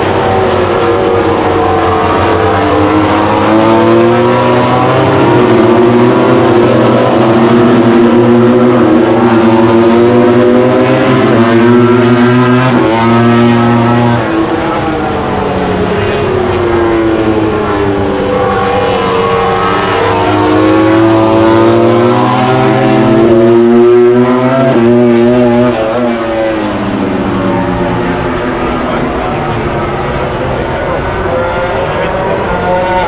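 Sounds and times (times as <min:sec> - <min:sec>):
racing motorcycle engines screaming: 0:00.0 - 0:33.0.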